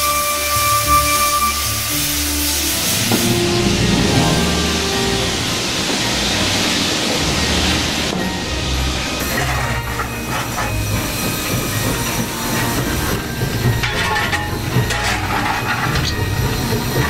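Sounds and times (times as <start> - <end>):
hissing steam: 0.0 - 17.0
steam train rumble: 0.0 - 17.0.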